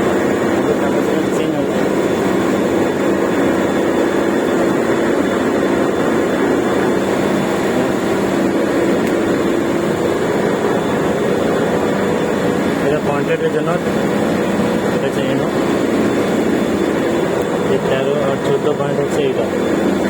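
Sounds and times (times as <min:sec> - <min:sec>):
refrigeration machinery drone: 0:00.0 - 0:20.0.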